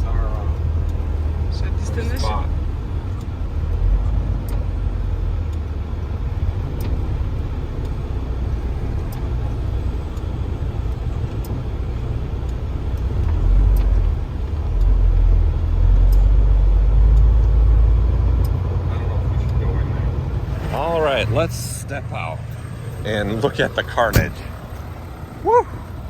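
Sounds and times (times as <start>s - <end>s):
faint ticking: 0.0s - 26.0s
truck engine rumbling: 0.0s - 26.0s.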